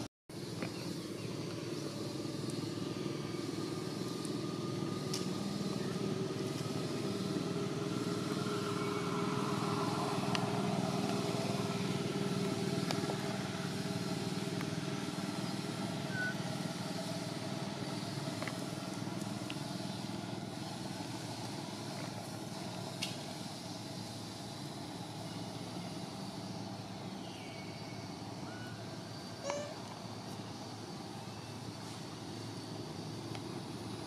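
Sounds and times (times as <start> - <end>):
motor engine running: 0.0 - 34.0.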